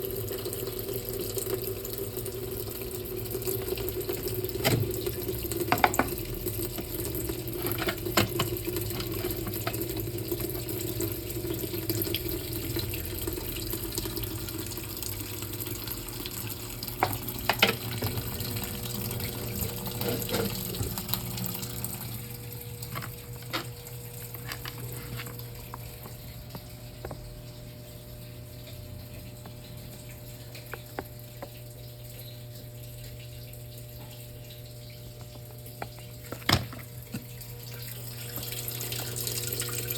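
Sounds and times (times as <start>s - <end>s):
water rushing into washing machine: 0.0s - 39.9s.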